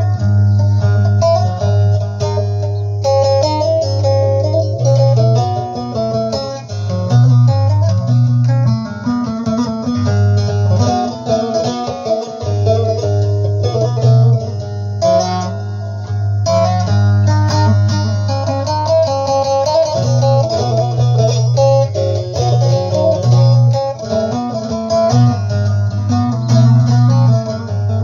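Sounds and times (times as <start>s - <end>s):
held bass notes: 0.0s - 28.0s
plucked lute melody: 0.0s - 28.0s.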